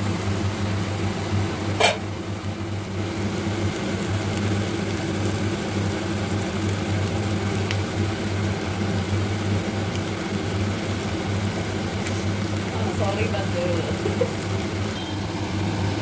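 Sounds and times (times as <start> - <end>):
vegetables frying in oil: 0.0 - 16.0.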